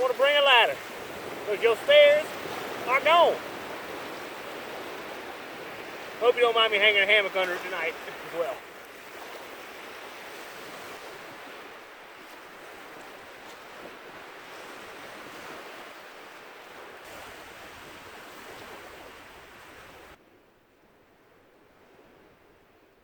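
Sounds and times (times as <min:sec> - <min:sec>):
ocean surf washing on beach: 0:00.0 - 0:20.4
wind: 0:00.0 - 0:23.0.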